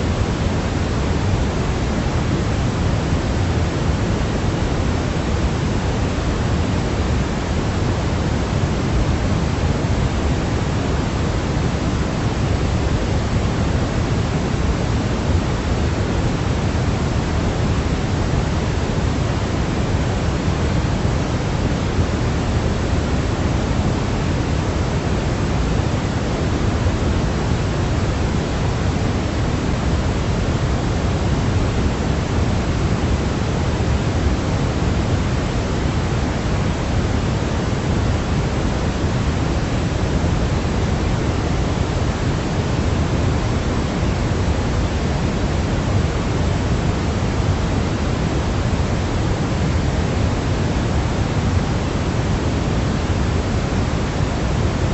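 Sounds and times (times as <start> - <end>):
steady synthetic hiss: 0.0 - 54.9.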